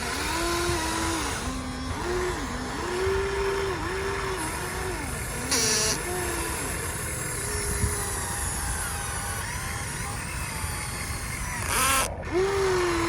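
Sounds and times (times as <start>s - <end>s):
hydraulic pump motor whining: 0.0s - 13.0s.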